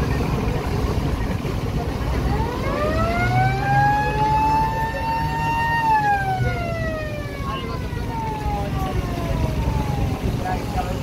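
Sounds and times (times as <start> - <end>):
boat engine rumbling: 0.0 - 11.0
boat siren wailing: 0.0 - 11.0
water noise: 0.0 - 11.0.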